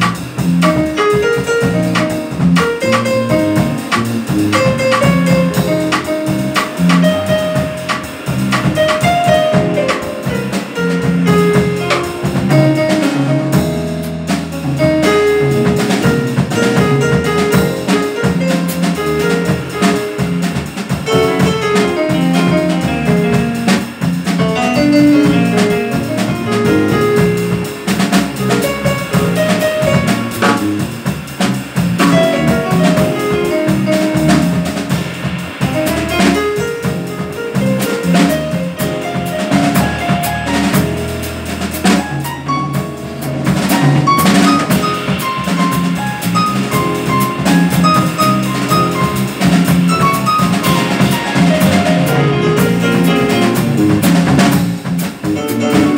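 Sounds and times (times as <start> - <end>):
drum kit rimshots: 0.0 - 55.9
jazz quartet playing live: 0.0 - 55.9.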